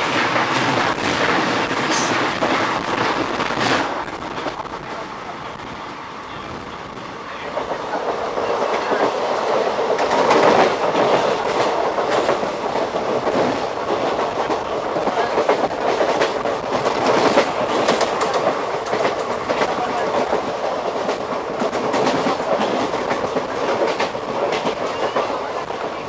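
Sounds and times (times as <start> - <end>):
train wheels clattering: 0.0 - 4.6, 7.6 - 26.0.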